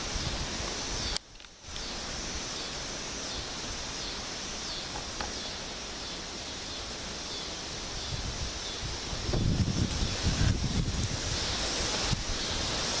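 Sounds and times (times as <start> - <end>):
storm wind hissing: 0.0 - 13.0.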